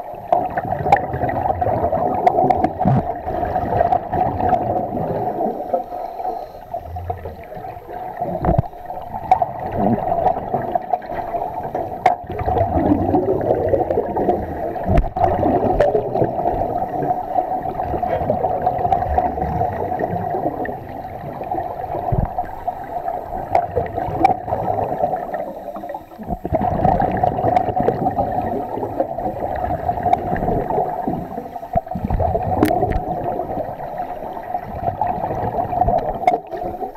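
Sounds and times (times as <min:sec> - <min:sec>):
muffled underwater water rush: 0:00.0 - 0:36.9.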